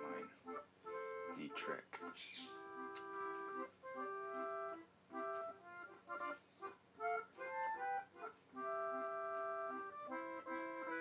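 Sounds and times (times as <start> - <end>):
accordion music: 0.0 - 11.0.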